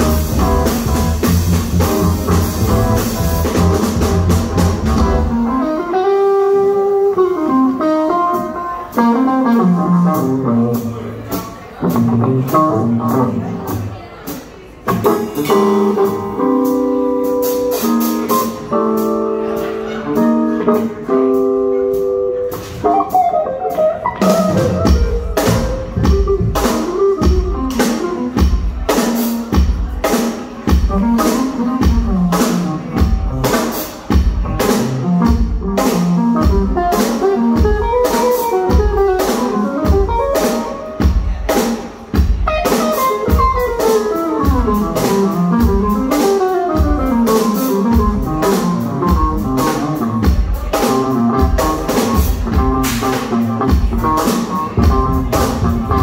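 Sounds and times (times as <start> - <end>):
drum kit beat: 0.0 - 56.0
live band playing instrumental: 0.0 - 56.0.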